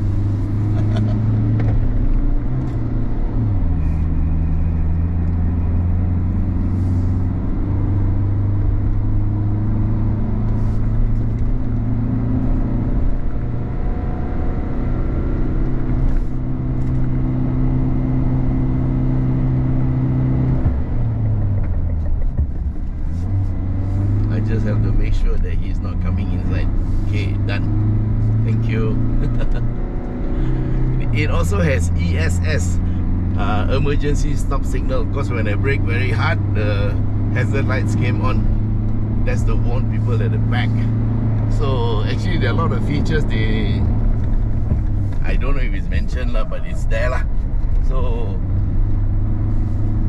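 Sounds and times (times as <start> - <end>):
diesel engine pulling uphill: 0.0 - 50.0.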